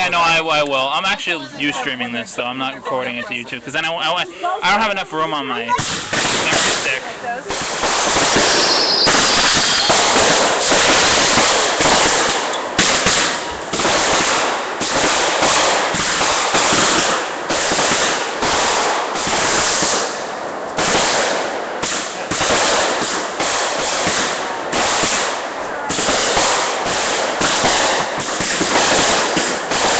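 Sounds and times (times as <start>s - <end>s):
fireworks crackling and popping: 3.7s - 29.9s.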